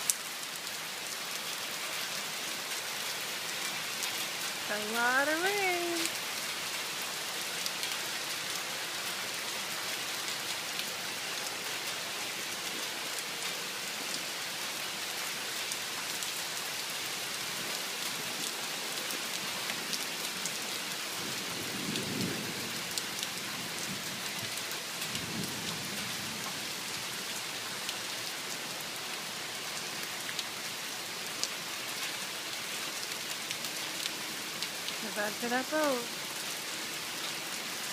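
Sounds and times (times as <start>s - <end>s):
heavy rain: 0.0s - 37.9s.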